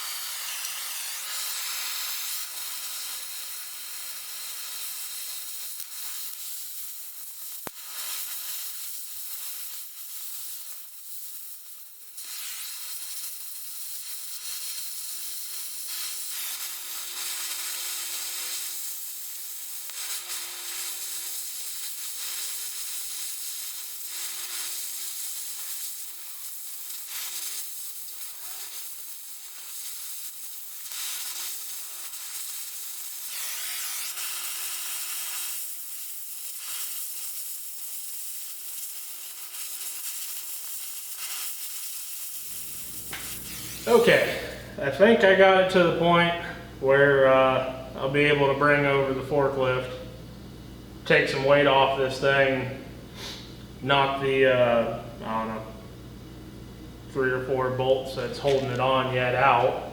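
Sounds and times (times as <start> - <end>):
cutting torch hissing and sizzling: 0.0 - 59.9.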